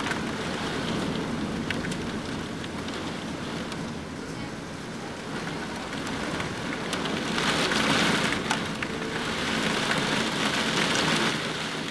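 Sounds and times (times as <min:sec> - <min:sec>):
heavy rain pouring: 0:00.0 - 0:11.9
raindrops ticking on window glass: 0:00.0 - 0:11.9.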